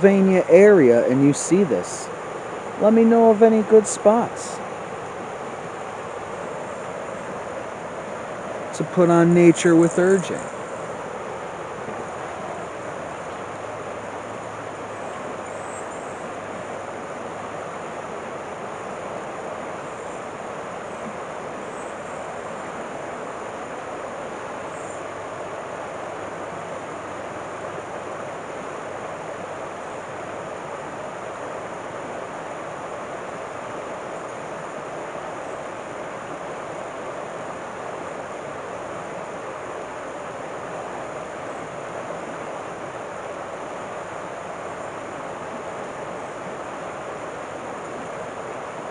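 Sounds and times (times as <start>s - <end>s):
river water rushing over rocks: 0.0s - 48.9s.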